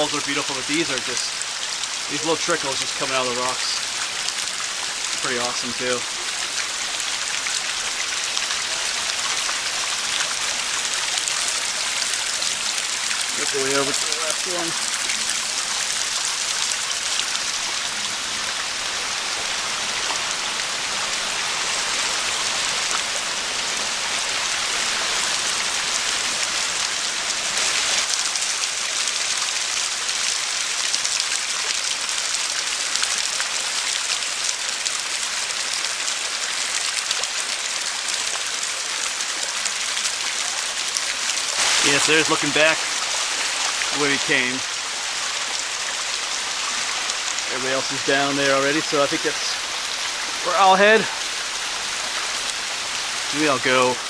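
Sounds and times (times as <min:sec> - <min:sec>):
small waterfall splashing over rocks: 0:00.0 - 0:54.0.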